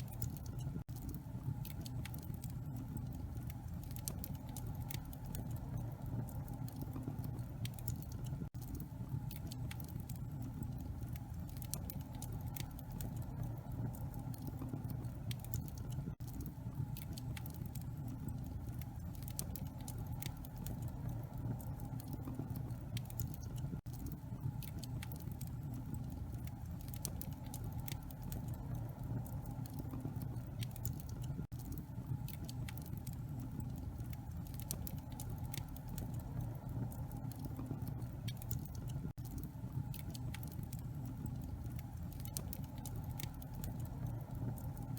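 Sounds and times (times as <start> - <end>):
low rumble of flames: 0.0 - 44.9
wood fire crackling and popping: 0.0 - 44.9.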